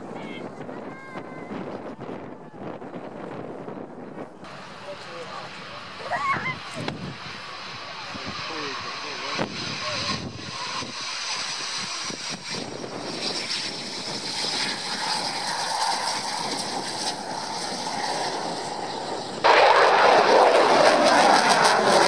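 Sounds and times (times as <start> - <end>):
jet engines on runway: 0.0 - 22.0
jet passing overhead: 0.0 - 22.0.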